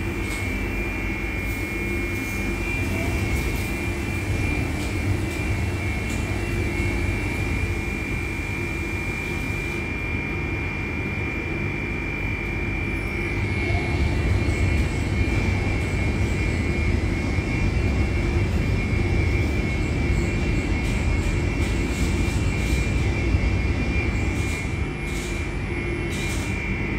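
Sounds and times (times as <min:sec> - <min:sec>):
car wash machine whine: 0:00.0 - 0:26.9.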